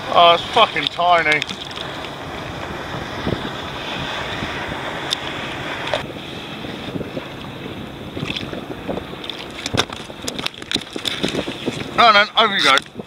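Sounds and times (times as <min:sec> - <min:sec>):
water lapping around kayak: 0:00.0 - 0:13.0
wind buffeting microphone: 0:00.0 - 0:13.0.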